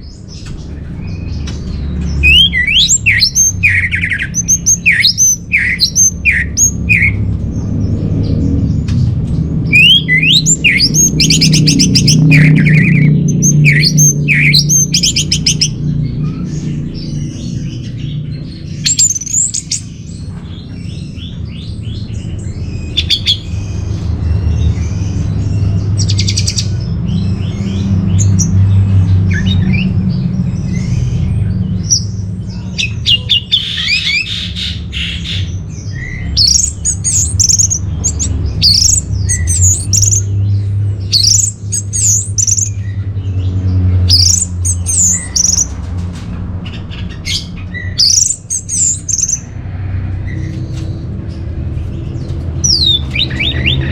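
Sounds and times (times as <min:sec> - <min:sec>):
thrush singing whistles and trills: 0:02.0 - 0:07.3, 0:09.6 - 0:28.6, 0:29.2 - 0:40.4, 0:41.0 - 0:43.1, 0:44.0 - 0:45.7, 0:46.7 - 0:49.5, 0:52.6 - 0:53.9.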